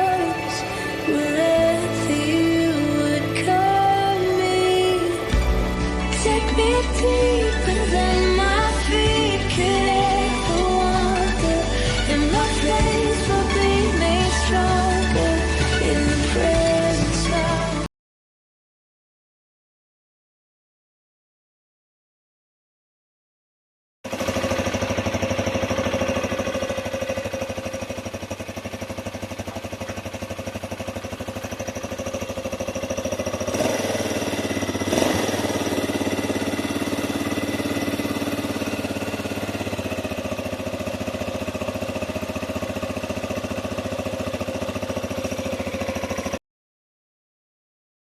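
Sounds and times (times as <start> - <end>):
motorcycle engine idling: 0.0 - 17.9, 24.0 - 46.4.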